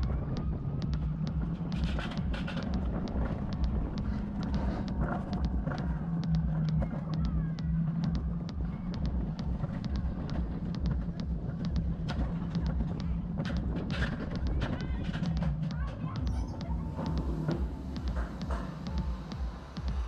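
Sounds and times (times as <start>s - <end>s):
coaster sled rumbling on rails: 0.0s - 20.0s.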